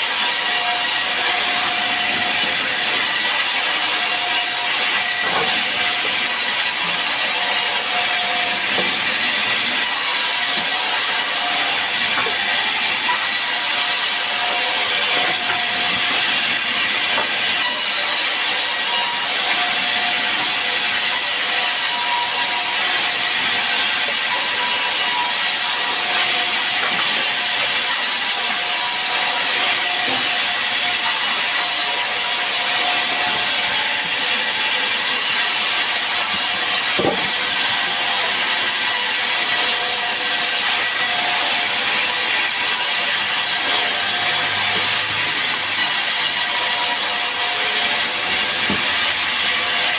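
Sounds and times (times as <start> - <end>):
sawmill saw cutting wood: 0.0 - 49.9.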